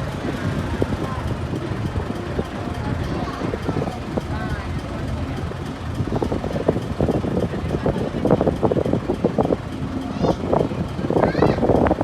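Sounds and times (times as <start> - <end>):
engine running: 0.0 - 12.0
wind buffeting microphone: 0.0 - 12.0.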